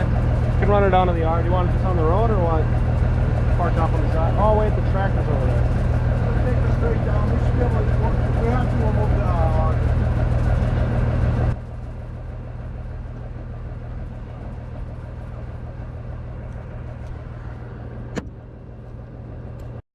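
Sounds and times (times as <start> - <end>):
engine humming: 0.0 - 19.8.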